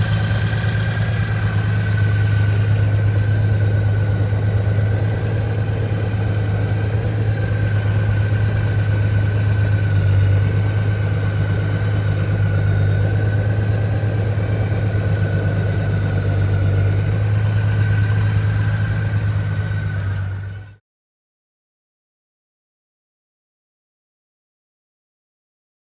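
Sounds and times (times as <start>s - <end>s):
motorcycle engine idling: 0.0s - 20.8s.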